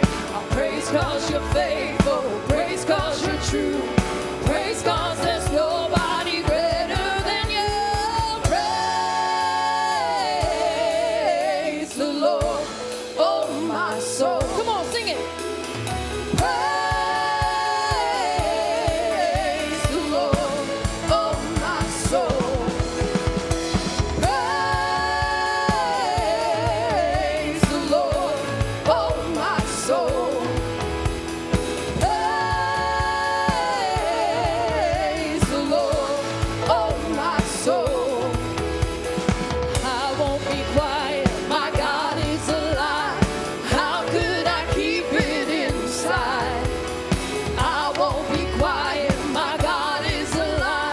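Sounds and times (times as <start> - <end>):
band with drum kit: 0.0 - 50.9
gospel singers: 0.0 - 50.9.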